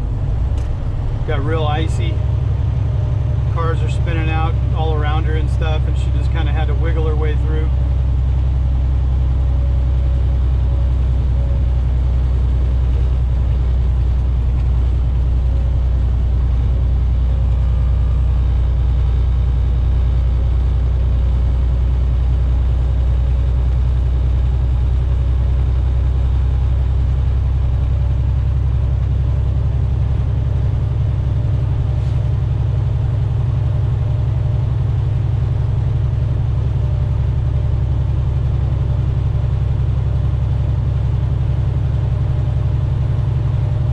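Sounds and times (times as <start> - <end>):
truck engine and tyres droning: 0.0 - 43.9.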